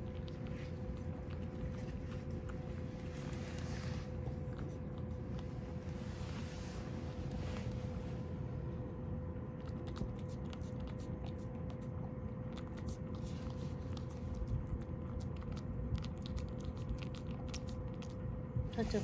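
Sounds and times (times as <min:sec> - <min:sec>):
cat licking and chewing food: 0:00.0 - 0:19.0.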